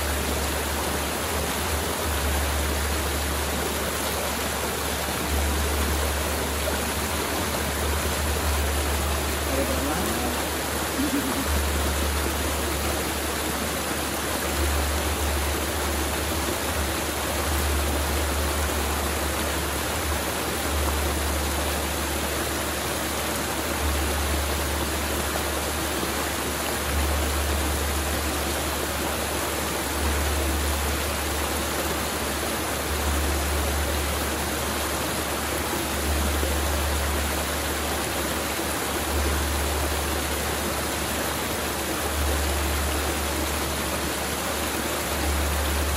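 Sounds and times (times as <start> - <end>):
river flowing: 0.0 - 45.9.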